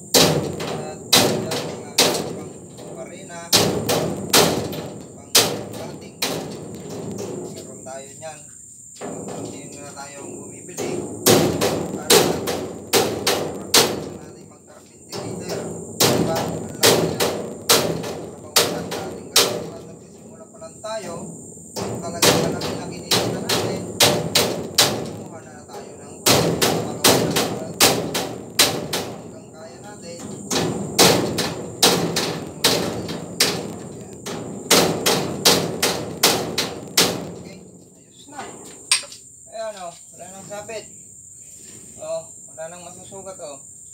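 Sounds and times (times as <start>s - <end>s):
knocks on steel frame: 0.0s - 8.4s, 9.0s - 39.2s.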